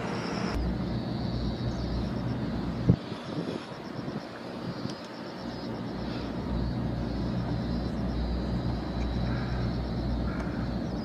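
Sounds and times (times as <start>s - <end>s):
faint fast high pulsing: 0.0s - 11.0s
low hum: 0.0s - 11.0s
low mechanical rumble: 0.0s - 11.0s
outdoor background noise: 0.0s - 11.0s.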